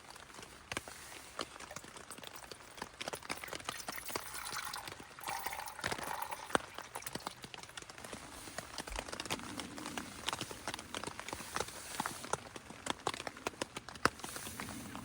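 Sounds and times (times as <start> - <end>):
light rain hiss: 0.0 - 15.0
raindrops dripping and ticking: 0.0 - 15.0.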